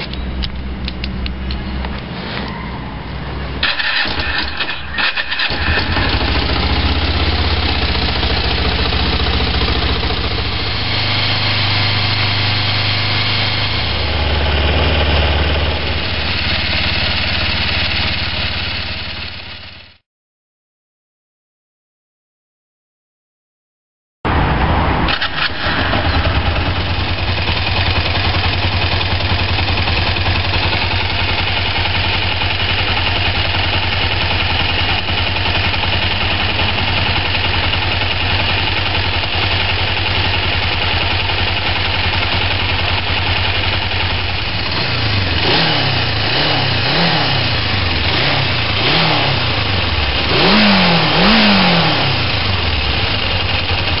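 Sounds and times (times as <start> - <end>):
motorcycle engine idling and revving: 0.0 - 20.0, 24.3 - 54.0.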